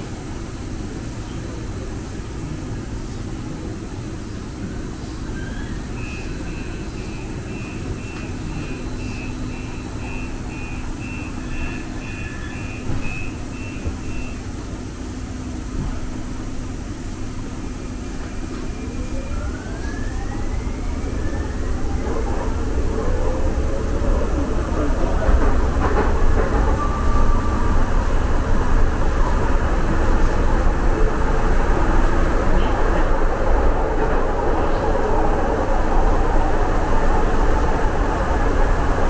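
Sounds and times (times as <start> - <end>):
train low rumble and hum: 0.0 - 39.0.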